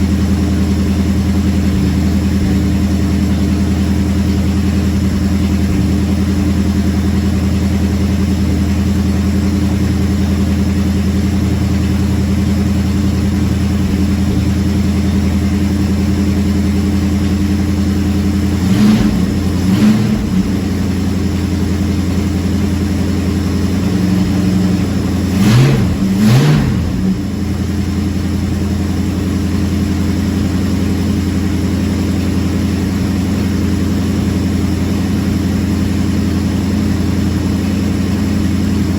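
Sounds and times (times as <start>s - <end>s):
car engine idling: 0.0s - 38.9s
engine throttle blips: 0.0s - 38.9s.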